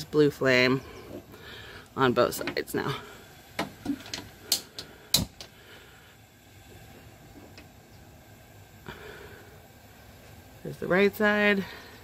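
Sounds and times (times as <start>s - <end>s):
faint hiss of gas burners: 0.0s - 12.0s.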